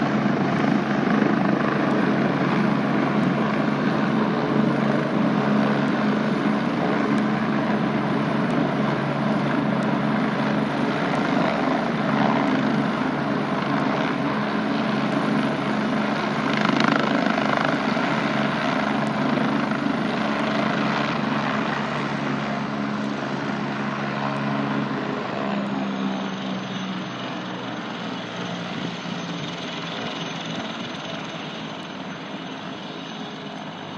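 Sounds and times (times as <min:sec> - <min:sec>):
helicopter rotor and turbine: 0:00.0 - 0:33.9
high turbine whine: 0:00.0 - 0:33.9.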